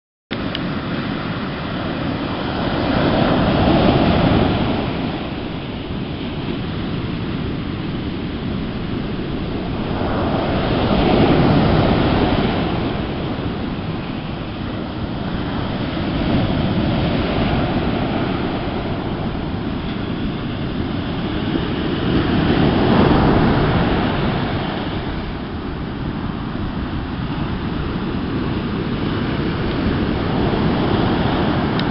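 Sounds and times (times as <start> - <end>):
sea surf washing on shore: 0.4 - 31.9
wind buffeting microphone: 0.4 - 31.9.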